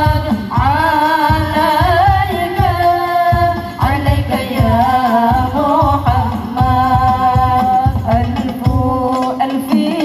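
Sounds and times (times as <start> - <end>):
music with ornamented singing: 0.0 - 10.0.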